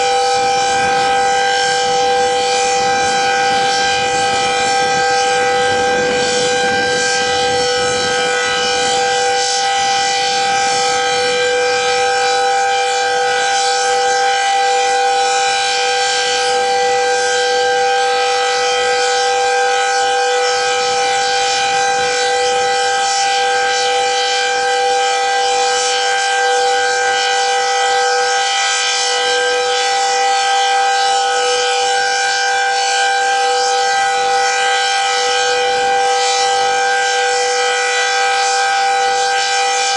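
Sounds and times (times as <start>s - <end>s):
warning siren steady two-note chord: 0.0s - 39.9s.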